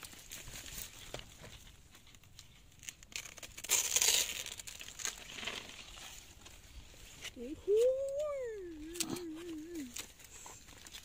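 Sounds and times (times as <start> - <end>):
pineapple leaves rustling and crackling: 0.0 - 11.0.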